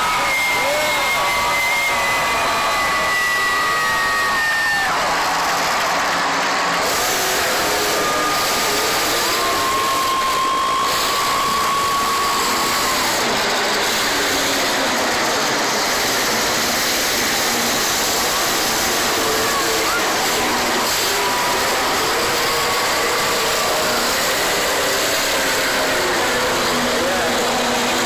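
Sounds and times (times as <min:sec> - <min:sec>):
monster truck engines running: 0:00.0 - 0:28.0.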